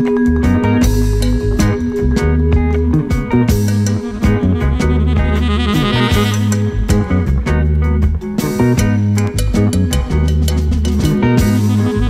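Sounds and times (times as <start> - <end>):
instrumental music: 0.0 - 12.0
drum hits: 0.9 - 11.9.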